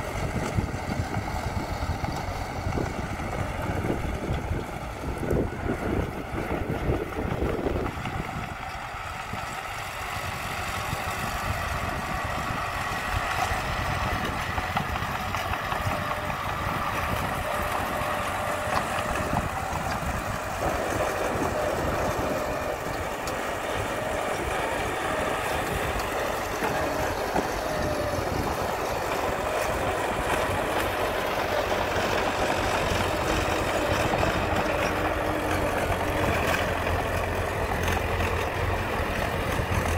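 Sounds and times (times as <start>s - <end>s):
bulldozer diesel engine running: 0.0s - 39.9s
clatter of dirt and rock: 0.0s - 39.9s.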